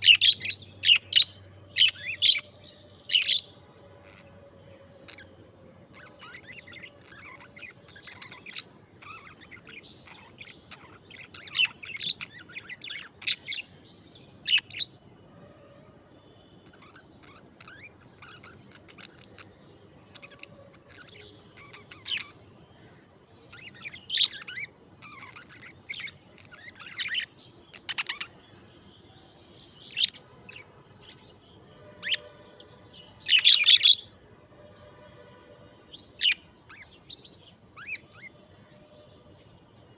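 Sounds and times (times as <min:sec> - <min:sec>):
budgerigars chattering and chirping: 0:00.0 - 0:14.9, 0:16.6 - 0:28.4, 0:29.4 - 0:31.3, 0:31.9 - 0:34.2, 0:36.0 - 0:38.8.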